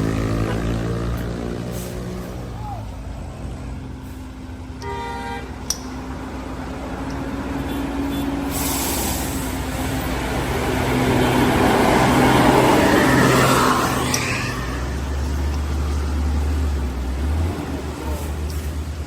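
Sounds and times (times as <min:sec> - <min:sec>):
heavy truck engine labouring: 0:00.0 - 0:19.0.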